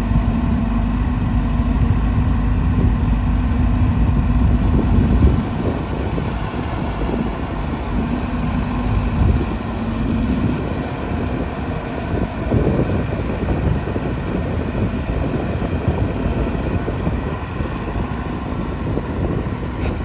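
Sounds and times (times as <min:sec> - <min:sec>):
excavator diesel engine drone: 0:00.0 - 0:20.0.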